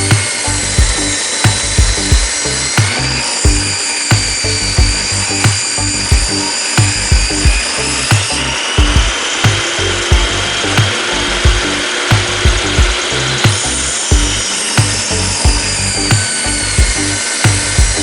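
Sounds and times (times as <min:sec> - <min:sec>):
background music with a beat: 0:00.0 - 0:18.0
table saw cutting wood: 0:00.0 - 0:18.0.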